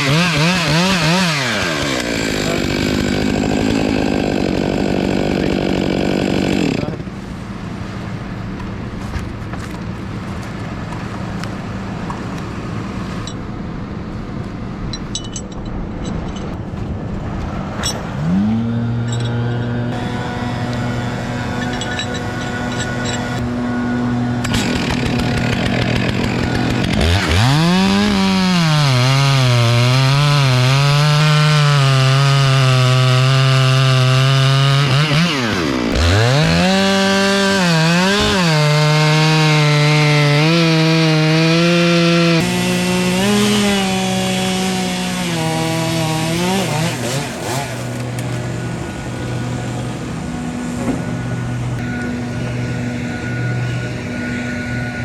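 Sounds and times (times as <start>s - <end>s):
chainsaw cutting through log: 0.0s - 7.2s, 18.1s - 55.0s.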